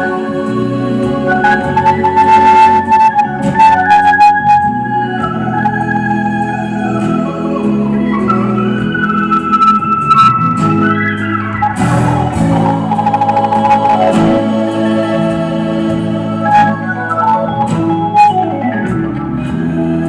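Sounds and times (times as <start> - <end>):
live band playing slow instrumental: 0.0 - 20.0
organ-like keyboard chords: 0.0 - 20.0.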